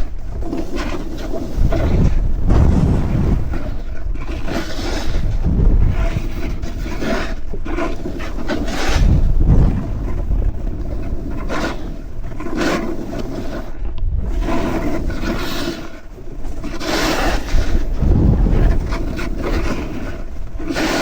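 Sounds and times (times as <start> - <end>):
snowboard scraping over snow: 0.0 - 21.0
wind rumble on microphone: 0.0 - 21.0.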